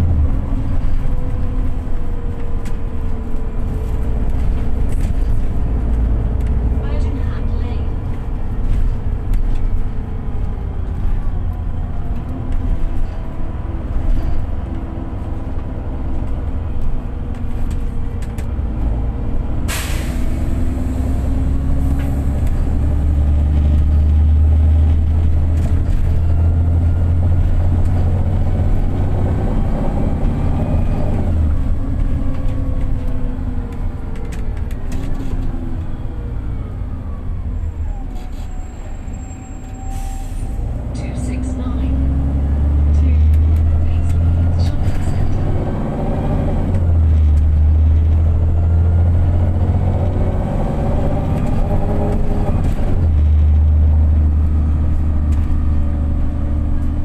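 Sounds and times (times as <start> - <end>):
bus engine and gearbox whining: 0.0 - 57.0.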